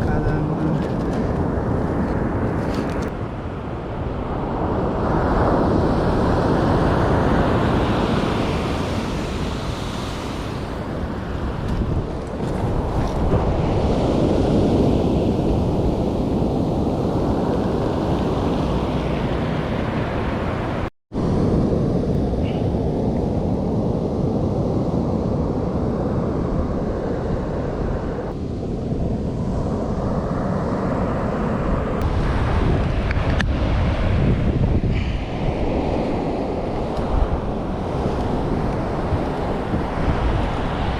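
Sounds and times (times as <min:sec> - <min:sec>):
surf breaking on beach: 0:00.0 - 0:21.5, 0:29.4 - 0:40.9
wind buffeting microphone: 0:00.0 - 0:40.9.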